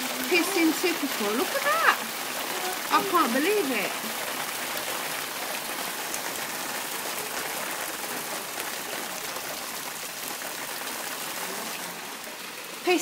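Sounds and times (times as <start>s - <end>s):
hailstones hitting patio and glass: 0.0s - 13.0s.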